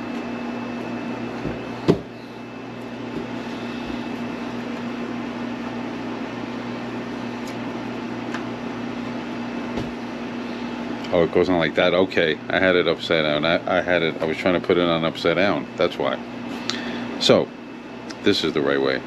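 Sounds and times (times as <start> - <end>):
room equipment hum: 0.0 - 19.0.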